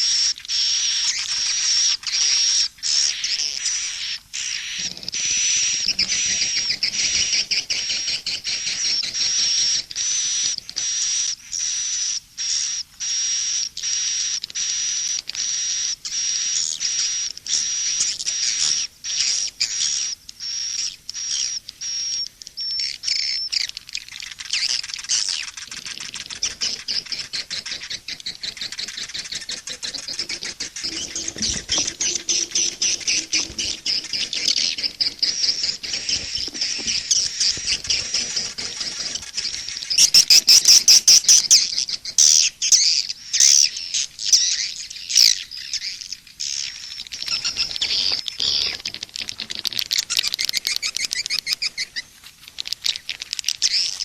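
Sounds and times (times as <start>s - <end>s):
swiftlet chirps and twittering: 0.5s - 11.8s, 12.4s - 48.8s.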